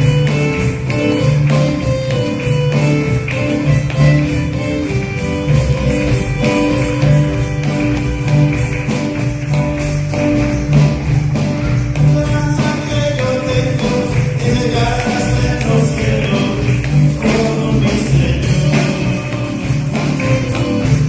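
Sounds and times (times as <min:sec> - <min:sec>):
live band instrumental music: 0:00.0 - 0:21.0
tambourine shaken: 0:00.0 - 0:21.0.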